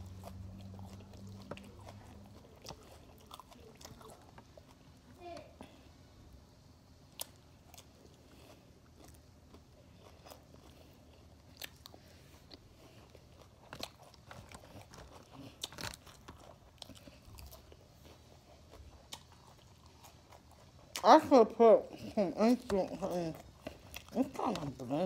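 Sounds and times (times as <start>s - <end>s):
chewing crisp salad leaves: 0.0s - 5.8s, 7.0s - 25.0s.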